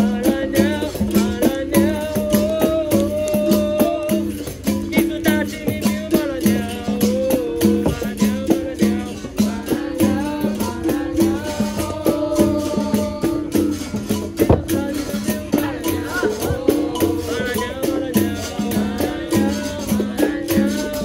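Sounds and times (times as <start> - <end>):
hand percussion: 0.0 - 21.0
people singing: 0.0 - 21.0
shaken rattle: 0.0 - 21.0.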